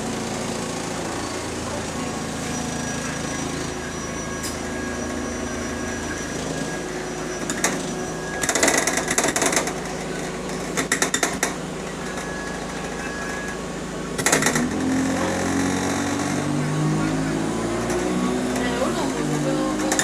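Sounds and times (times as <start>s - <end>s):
bus engine droning: 0.0s - 20.0s
noisy clatter: 0.0s - 20.0s.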